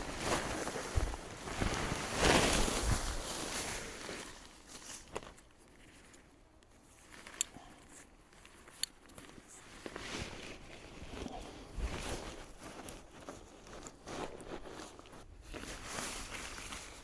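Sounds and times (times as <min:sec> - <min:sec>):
footsteps rustling through ground cover: 0:00.0 - 0:17.0.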